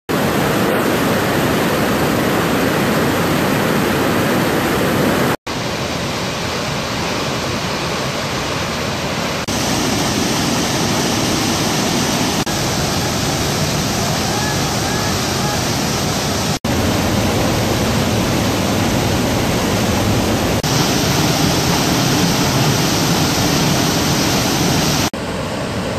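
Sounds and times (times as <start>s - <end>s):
water rushing over rock ledges: 0.1s - 25.9s.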